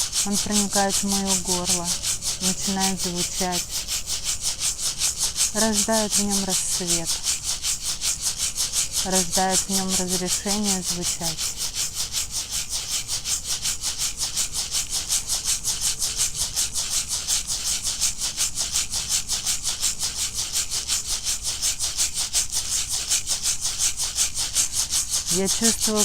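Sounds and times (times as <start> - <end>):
rattle shaken in fast rhythm: 0.0 - 26.0.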